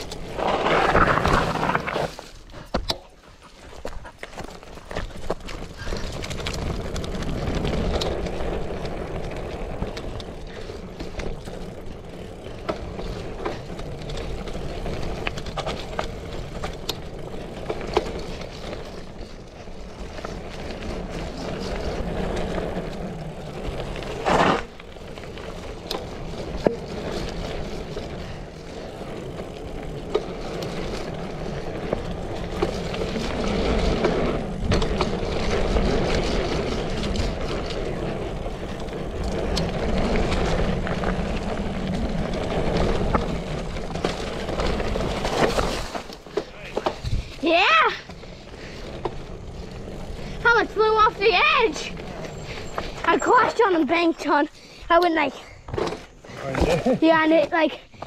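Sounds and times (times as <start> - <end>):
bicycle tyres rolling on dirt: 0.0 - 58.0
bike rattling and clicking: 0.0 - 58.0.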